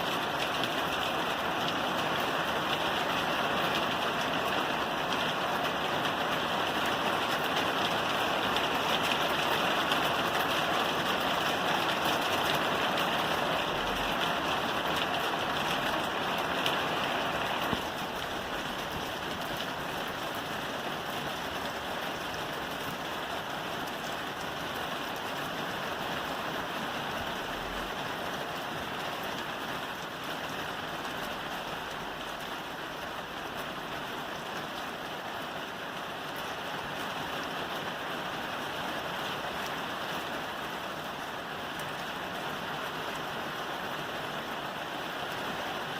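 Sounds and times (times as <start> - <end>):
rain falling on a roof: 0.0 - 45.9.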